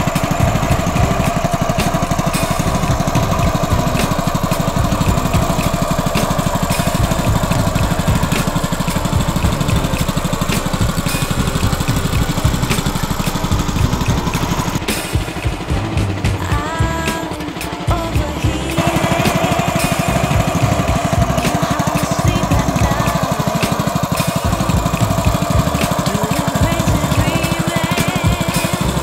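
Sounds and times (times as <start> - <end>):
small water pump engine running: 0.0 - 29.0.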